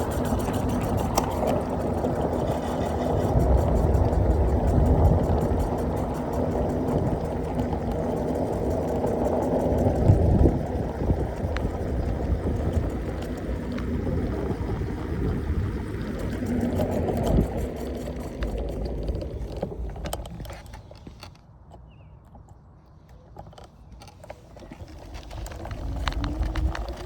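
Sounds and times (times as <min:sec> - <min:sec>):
wind on microphone: 0:00.0 - 0:21.3, 0:24.5 - 0:27.0
tyres rolling on road: 0:00.0 - 0:21.7, 0:22.4 - 0:27.0.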